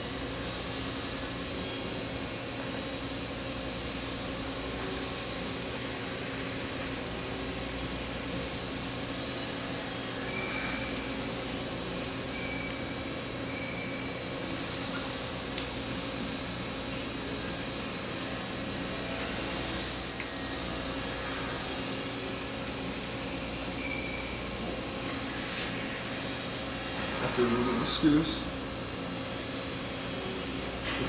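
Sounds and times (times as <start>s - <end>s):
machine-shop hum and hiss: 0.0s - 31.0s.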